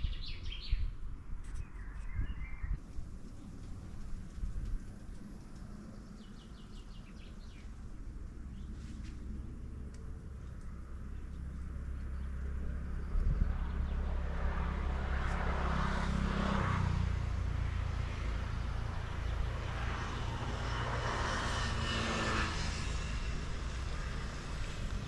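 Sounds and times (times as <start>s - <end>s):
engine humming: 2.8s - 25.0s.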